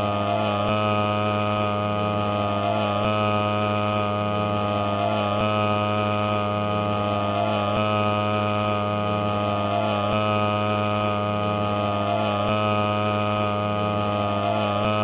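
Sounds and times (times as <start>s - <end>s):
electronic hum: 0.0s - 15.0s.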